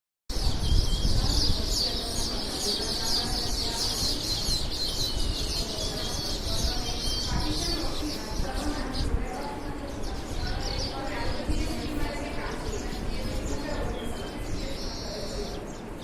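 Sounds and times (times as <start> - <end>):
small birds chirping: 0.3 - 16.0.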